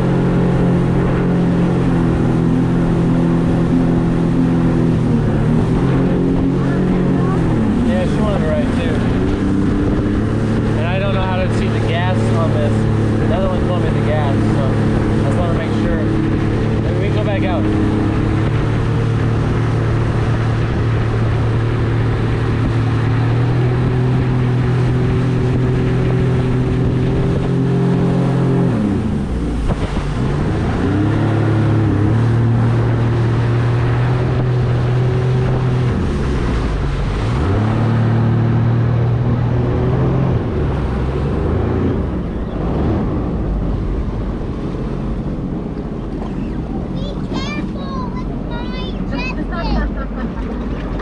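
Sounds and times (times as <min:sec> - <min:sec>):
watercraft engine running: 0:00.0 - 0:51.0.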